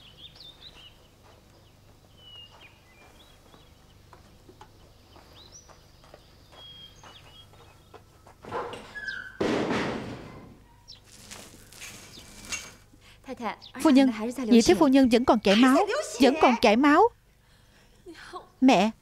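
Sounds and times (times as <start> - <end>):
faint birds chirping: 0.0 - 9.4, 10.3 - 19.0.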